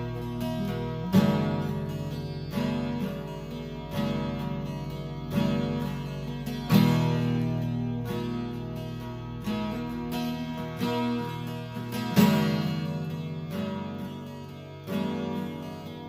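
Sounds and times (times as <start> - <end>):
acoustic guitar chords strummed: 0.0 - 16.0.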